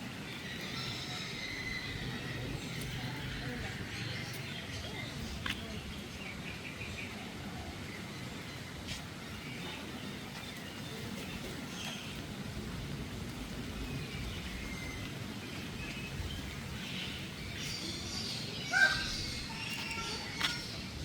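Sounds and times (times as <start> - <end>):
birds chirping: 0.0 - 21.0
outdoor background noise: 0.0 - 21.0.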